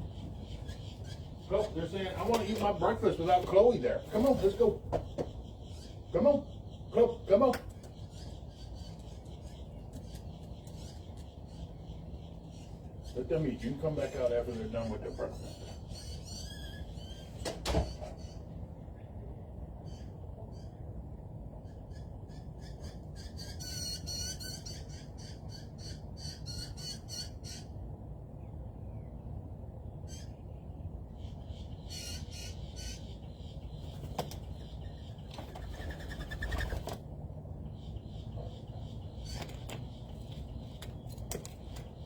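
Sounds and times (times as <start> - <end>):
birds squawking: 0.0 - 18.6, 21.6 - 27.8, 29.9 - 37.0, 37.6 - 42.0.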